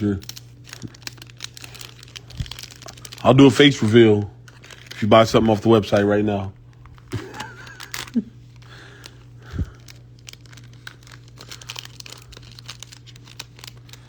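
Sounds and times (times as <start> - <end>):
foil wrapper crinkling: 0.0 - 14.0
steady low hum: 0.0 - 14.0.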